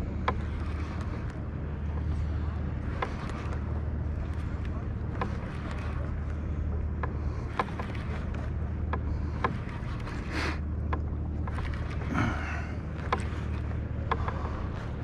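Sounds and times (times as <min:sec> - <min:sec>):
low wind rumble on microphone: 0:00.0 - 0:15.0
water lapping against kayak hull: 0:00.0 - 0:15.0
small clicks and knocks: 0:00.2 - 0:12.2, 0:12.9 - 0:15.0.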